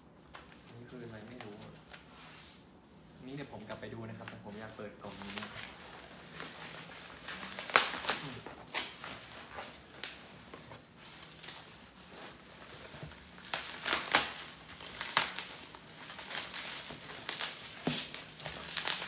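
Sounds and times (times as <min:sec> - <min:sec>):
plastic packaging crinkling: 0:03.6 - 0:19.0.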